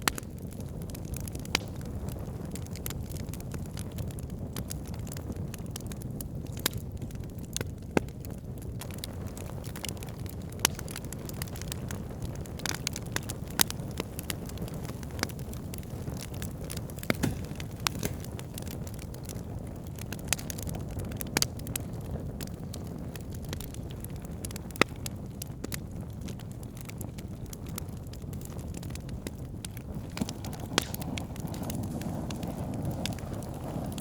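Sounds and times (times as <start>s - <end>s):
campfire crackling and popping: 0.0s - 34.0s
low rumble of flames: 0.0s - 34.0s.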